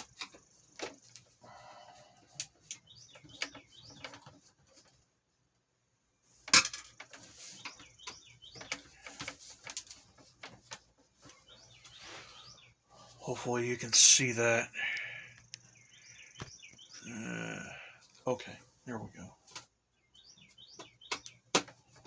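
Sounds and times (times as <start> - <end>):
birds chirping: 0.0 - 4.9, 7.0 - 22.0.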